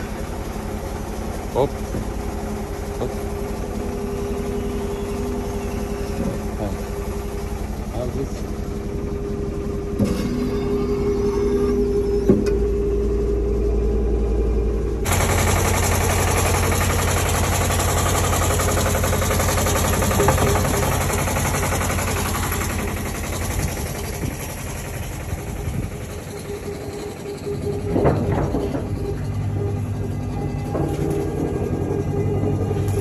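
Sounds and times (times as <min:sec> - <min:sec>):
engine running: 0:00.0 - 0:33.0.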